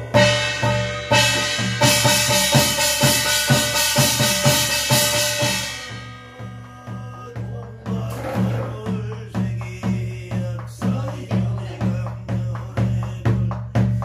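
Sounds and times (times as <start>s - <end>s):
barrel drum beaten with stick: 0.0s - 14.0s.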